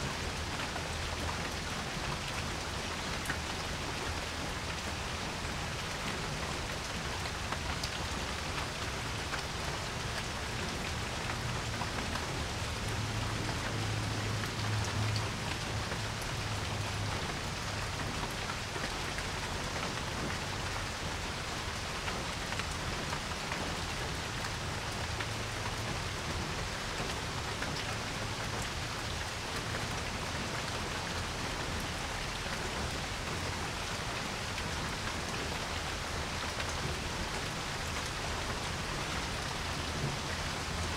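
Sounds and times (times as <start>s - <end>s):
rain falling on a porch: 0.0s - 40.9s.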